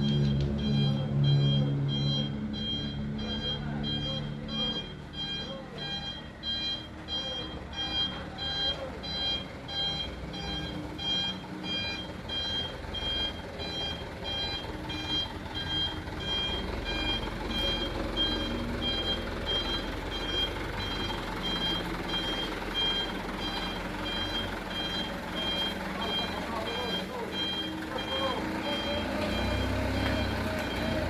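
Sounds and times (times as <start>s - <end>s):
truck engine running: 0.0s - 31.0s
truck reverse alarm beeping: 0.0s - 31.0s.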